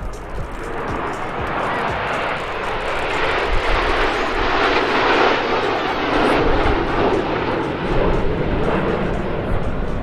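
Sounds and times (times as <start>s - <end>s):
jets flying overhead: 0.0s - 10.0s.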